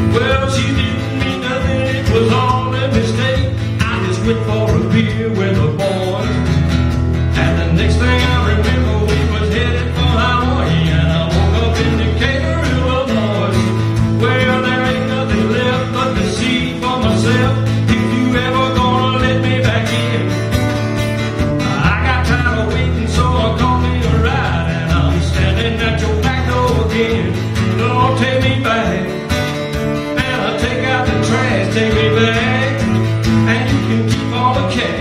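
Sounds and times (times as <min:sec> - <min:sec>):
country music with acoustic guitar: 0:00.0 - 0:35.0.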